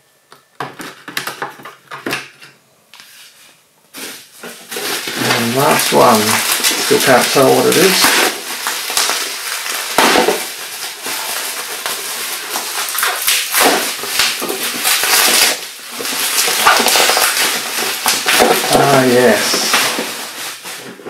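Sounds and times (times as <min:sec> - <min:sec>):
hands rummaging packing material: 0:03.9 - 0:21.0.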